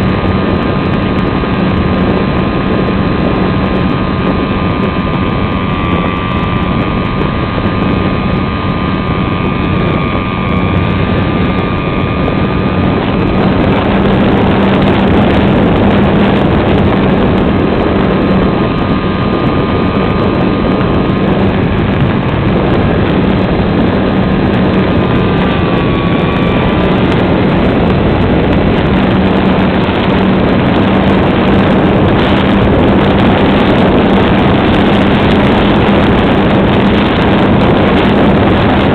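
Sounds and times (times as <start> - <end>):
electric motor whine: 0.0 - 38.9
wind and propeller rush: 0.0 - 38.9.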